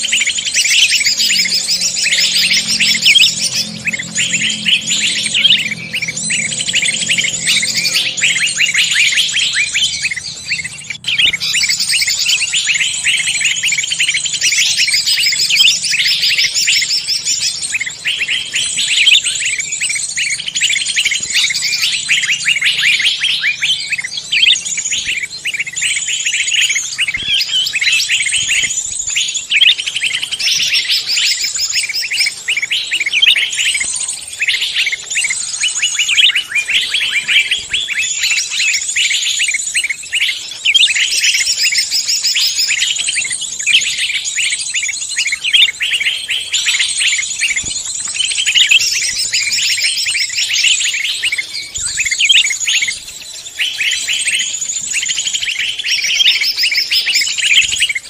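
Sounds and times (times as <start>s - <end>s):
chorus of songbirds: 0.0s - 58.0s.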